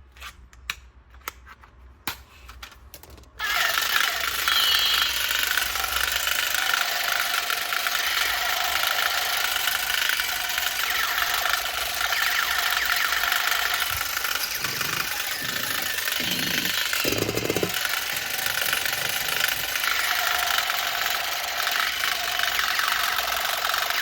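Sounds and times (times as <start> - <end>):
toy motor rattling: 3.4 - 24.0.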